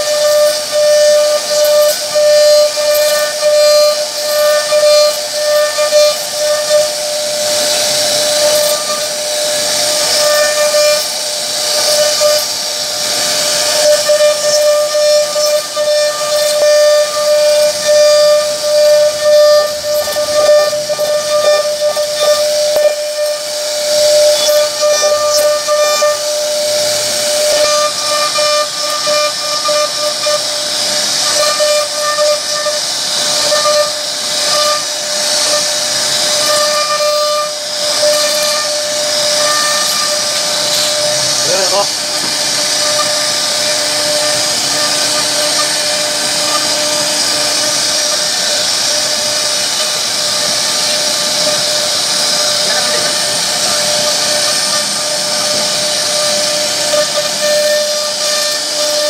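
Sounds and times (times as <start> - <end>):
hiss of cutting wood: 0.0 - 59.0
router spindle whining: 0.0 - 59.0.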